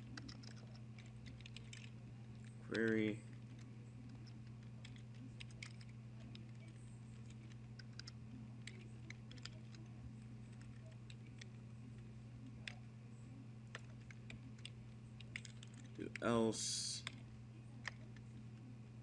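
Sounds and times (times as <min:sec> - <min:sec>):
keyboard typing: 0:00.0 - 0:12.9, 0:13.6 - 0:18.7
steady low hum: 0:00.0 - 0:19.0.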